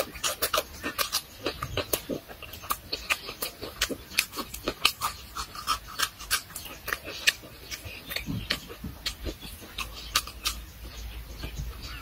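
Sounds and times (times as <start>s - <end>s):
crunching raw vegetables: 0.0s - 12.0s
wet chewing and lip-smacking: 0.0s - 12.0s.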